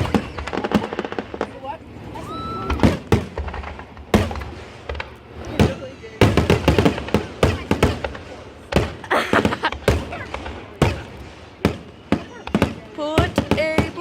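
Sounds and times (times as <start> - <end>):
fireworks banging and crackling: 0.0 - 14.0.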